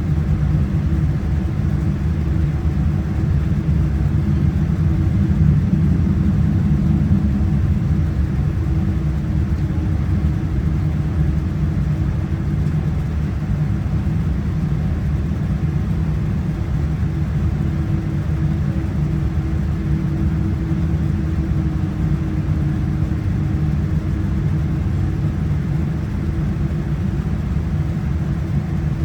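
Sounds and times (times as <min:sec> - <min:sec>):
aircraft cabin rumble: 0:00.0 - 0:29.0
faint steady hum: 0:00.0 - 0:29.0.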